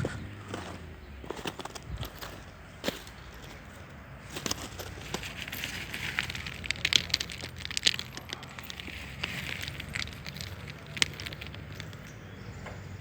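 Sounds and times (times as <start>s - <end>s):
stones and gravel clattering: 0.5s - 12.4s.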